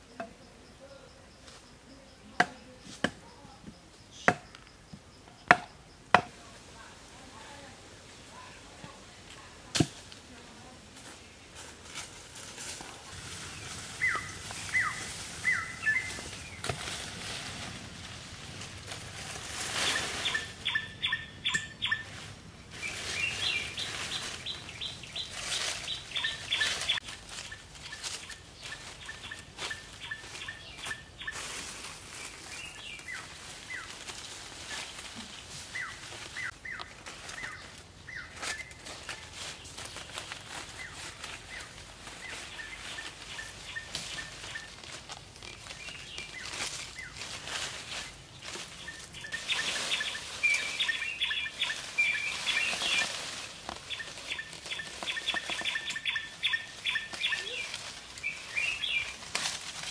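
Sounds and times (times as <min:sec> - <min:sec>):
branches rustling and twigs crackling: 0:00.0 - 0:59.9
forest birds chirping: 0:00.0 - 0:59.9.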